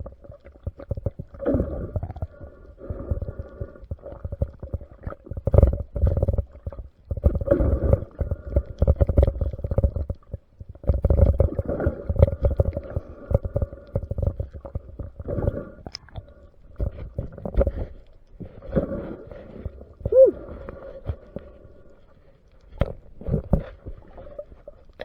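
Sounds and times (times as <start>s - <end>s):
underwater rumbling and bubbling: 0.0s - 25.0s.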